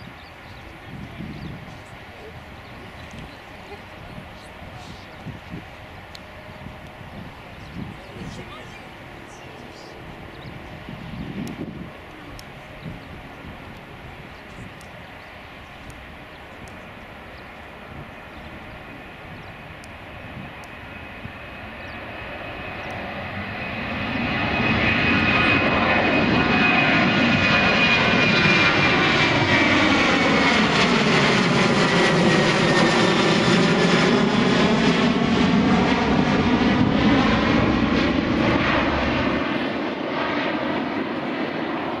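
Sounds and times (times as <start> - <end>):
jet airliner taking off: 0.0 - 42.0.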